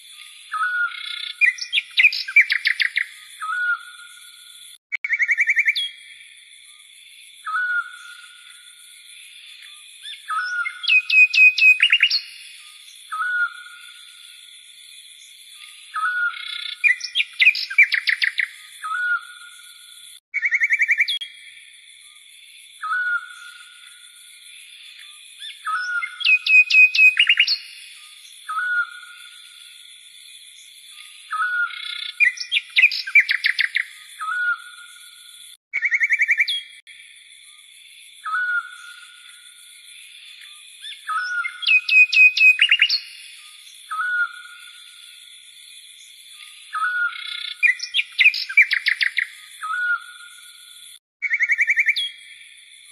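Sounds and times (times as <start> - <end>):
birds whistling and trilling: 0.0 - 6.8, 7.4 - 8.9, 9.5 - 21.5, 22.8 - 24.0, 24.8 - 36.9, 38.2 - 39.6, 40.3 - 45.1, 45.9 - 52.9
songbird singing: 0.0 - 52.9.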